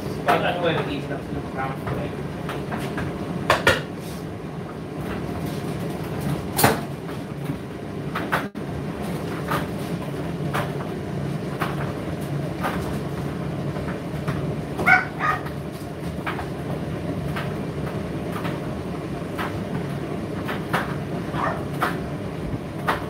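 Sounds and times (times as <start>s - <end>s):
tumble dryer drum humming: 0.0s - 23.0s
knocks and clicks of tumbling load: 0.2s - 3.9s, 4.6s - 23.0s.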